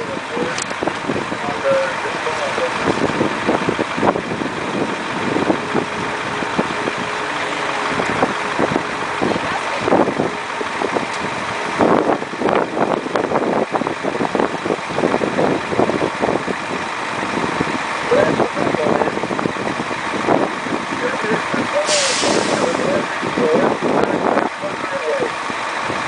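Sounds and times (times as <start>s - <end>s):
irregular buffeting pulses: 0.0s - 26.0s
steady rushing noise: 0.0s - 26.0s
vehicle engine idling: 0.0s - 26.0s.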